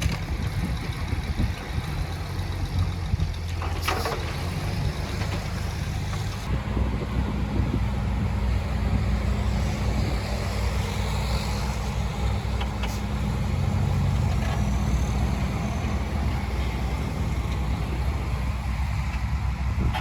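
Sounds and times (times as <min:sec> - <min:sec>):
heavy diesel engine droning: 0:00.0 - 0:20.0.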